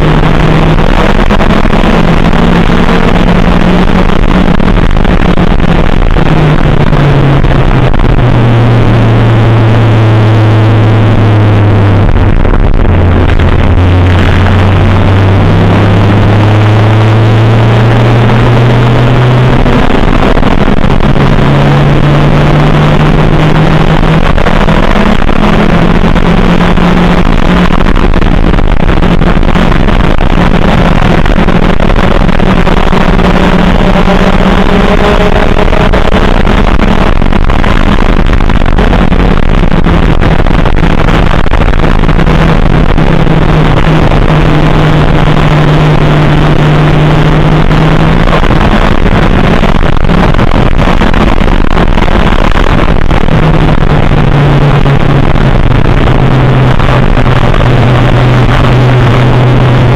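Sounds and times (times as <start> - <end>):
race car engine at speed: 0.0 - 59.9.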